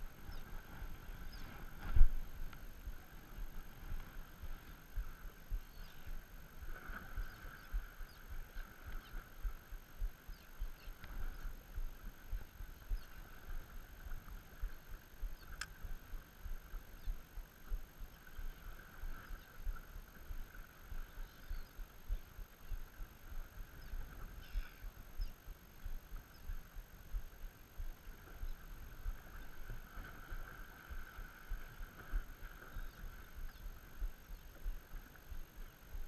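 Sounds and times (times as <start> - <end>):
water lapping against boat hull: 0.0 - 36.0
wind buffeting microphone: 0.0 - 36.0.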